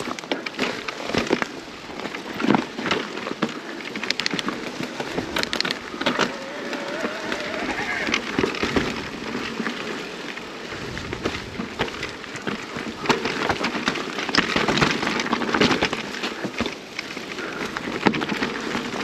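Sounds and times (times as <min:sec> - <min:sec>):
bike rattling: 0:00.0 - 0:19.0
bike tyres crunching on gravel: 0:00.0 - 0:19.0.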